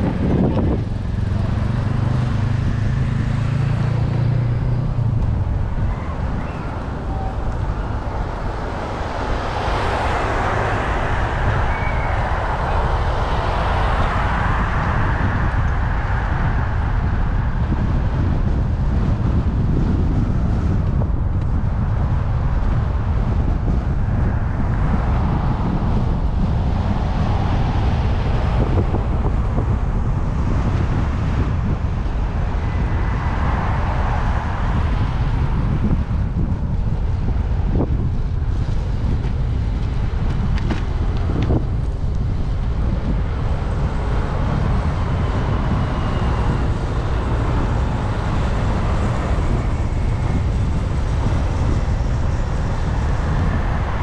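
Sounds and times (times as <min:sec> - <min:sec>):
road traffic: 0:00.0 - 0:54.0
wind rumble on microphone: 0:00.0 - 0:54.0.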